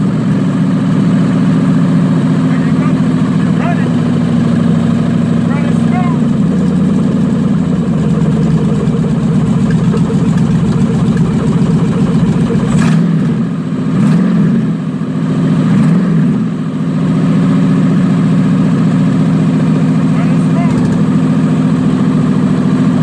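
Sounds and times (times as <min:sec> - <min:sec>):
engine running and revving: 0:00.0 - 0:23.0.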